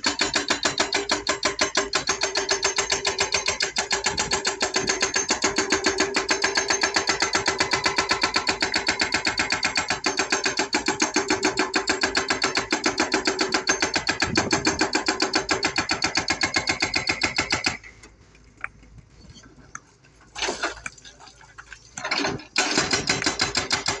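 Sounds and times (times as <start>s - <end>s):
hydraulic rock breaker hammering: 0.0s - 17.9s, 22.0s - 24.0s.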